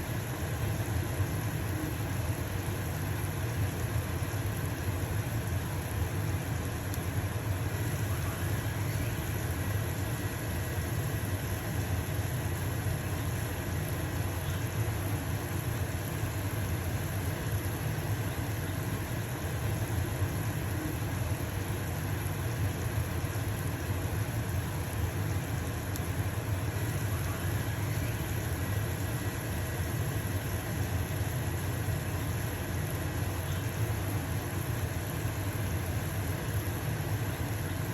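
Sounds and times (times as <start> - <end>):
pancake sizzling in frying pan: 0.0 - 37.9
range hood fan humming: 0.0 - 37.9.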